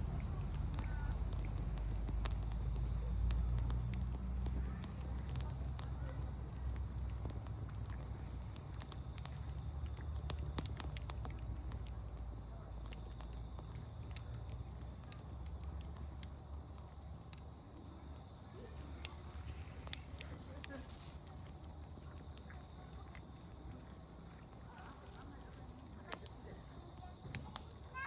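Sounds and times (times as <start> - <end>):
logs popping: 0.0 - 26.4
campfire crackling: 0.0 - 28.0
insect trill: 0.0 - 28.0.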